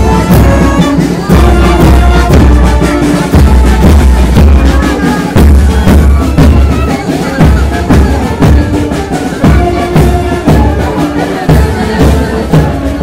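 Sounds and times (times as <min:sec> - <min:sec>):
bass drums beating: 0:00.0 - 0:12.8
marching band playing: 0:00.0 - 0:13.0.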